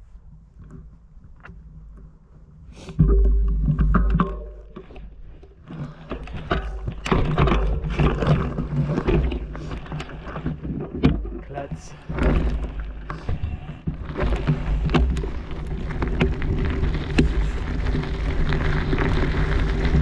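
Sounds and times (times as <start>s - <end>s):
bike rattling on rocks: 3.0s - 20.0s.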